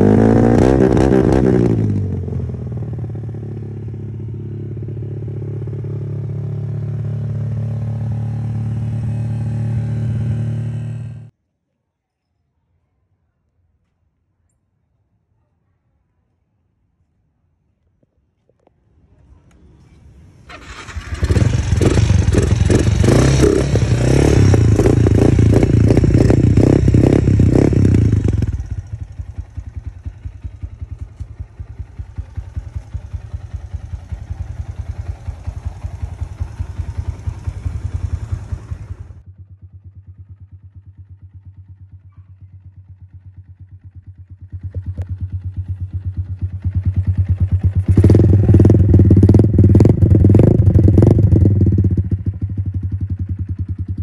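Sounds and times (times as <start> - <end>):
motorcycle engine revving: 0.0 - 11.3, 20.5 - 54.0.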